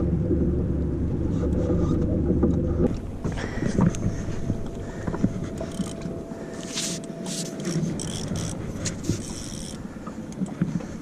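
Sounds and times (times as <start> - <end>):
boat motor running: 0.0 - 11.0
thin steady whine: 0.0 - 11.0.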